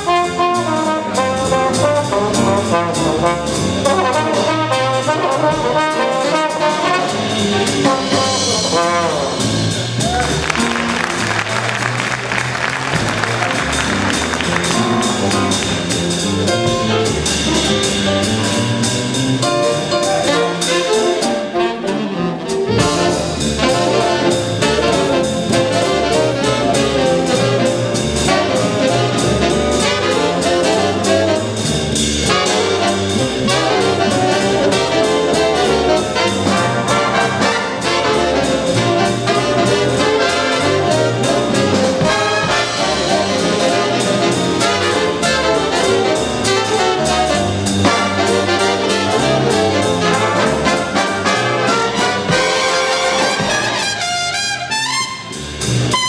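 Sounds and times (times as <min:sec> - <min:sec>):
trumpets: 0:00.0 - 0:18.6, 0:19.7 - 0:56.0
bass: 0:00.0 - 0:56.0
drums: 0:00.0 - 0:56.0
piano: 0:00.0 - 0:56.0
trombones: 0:00.0 - 0:56.0.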